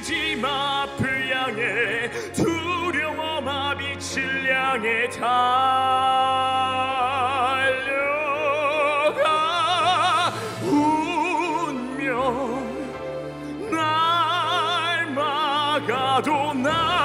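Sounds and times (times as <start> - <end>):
man singing with vibrato: 0.0 - 17.0.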